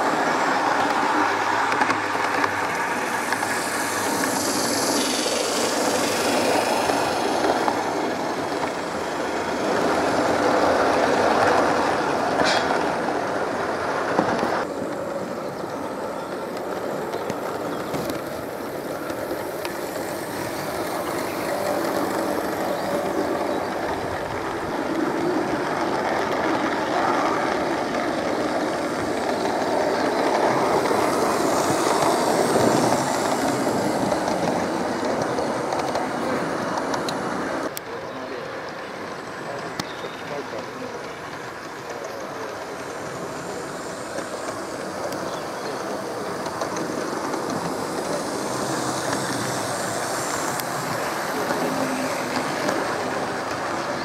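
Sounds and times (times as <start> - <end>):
model train wheels clattering on rails: 0.0 - 54.0.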